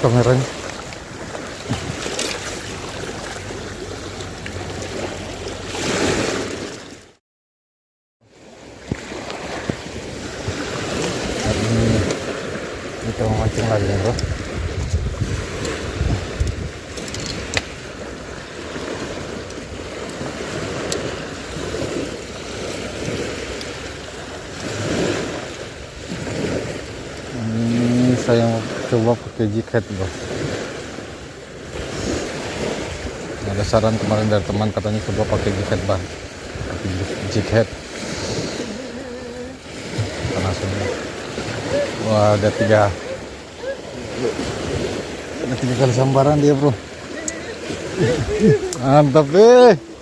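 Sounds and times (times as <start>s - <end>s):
waves washing and lapping: 0.0s - 7.2s, 8.2s - 50.0s
wind: 0.0s - 7.2s, 8.2s - 50.0s.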